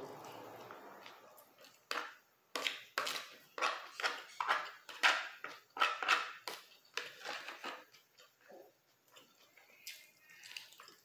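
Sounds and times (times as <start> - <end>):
person chewing food: 0.2 - 11.0.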